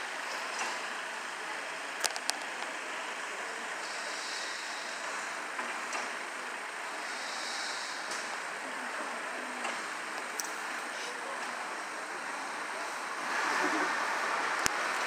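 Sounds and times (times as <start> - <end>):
tractor running: 0.0 - 15.0.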